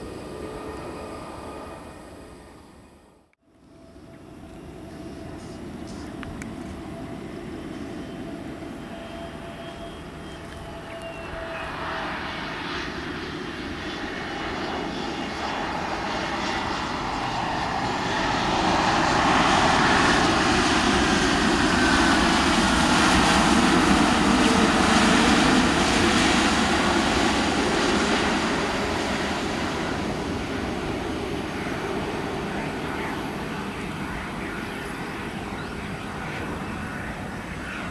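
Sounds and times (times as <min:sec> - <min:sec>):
jet engines roaring on landing: 0:00.0 - 0:37.9.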